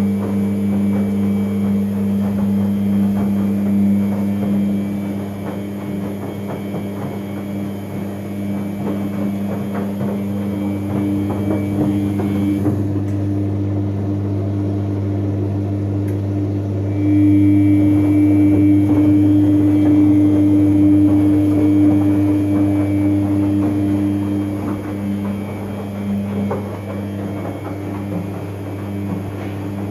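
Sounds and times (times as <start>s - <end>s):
washing machine droning hum: 0.0s - 29.9s.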